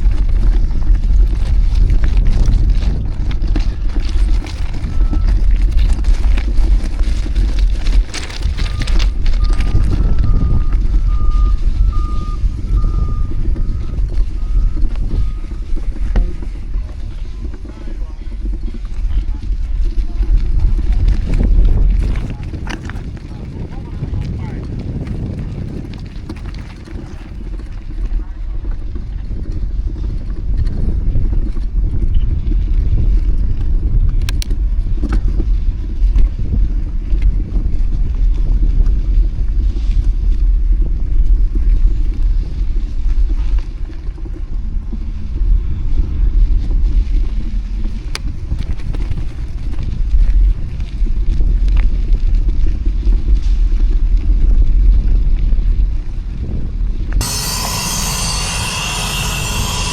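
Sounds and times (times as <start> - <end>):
wind buffeting microphone: 0.0 - 53.3.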